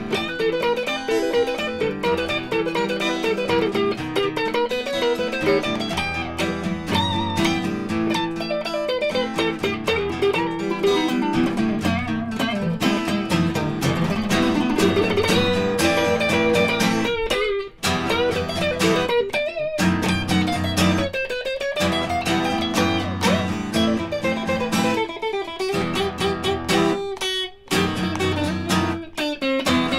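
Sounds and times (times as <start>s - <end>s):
acoustic guitar: 0.0s - 29.9s
electric guitar: 0.0s - 29.9s.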